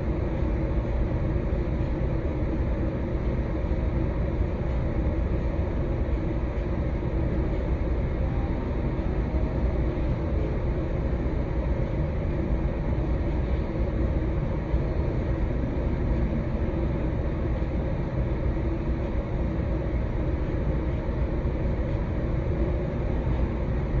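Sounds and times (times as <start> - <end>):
deep white noise: 0.0 - 24.0.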